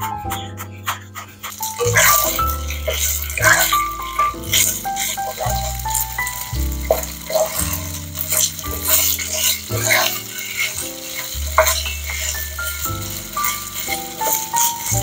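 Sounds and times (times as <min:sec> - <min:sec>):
background music: 0:00.0 - 0:15.0
utensil scraping a pan: 0:00.8 - 0:15.0
stir-fry sizzling in a pan: 0:01.1 - 0:15.0.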